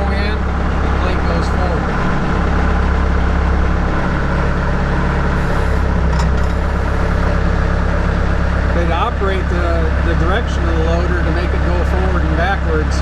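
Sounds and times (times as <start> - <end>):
diesel engine running at low throttle: 0.0 - 13.0.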